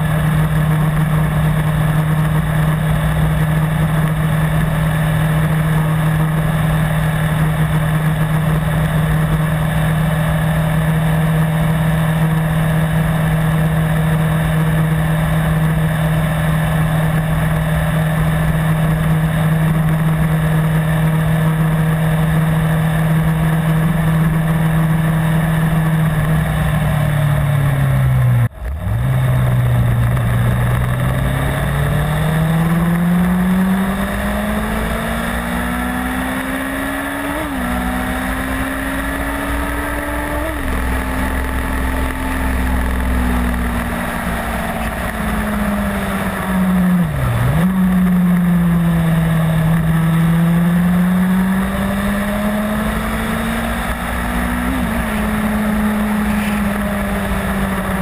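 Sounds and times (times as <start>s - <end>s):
low rush of wind: 0.0s - 58.0s
motorcycle engine shifting gears: 0.0s - 58.0s.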